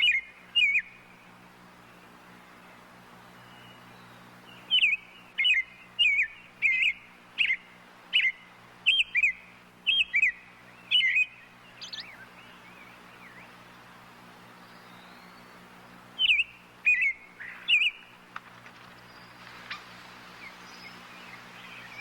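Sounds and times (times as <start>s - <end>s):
bird chirping: 0.0s - 22.0s
low steady hum: 0.0s - 22.0s.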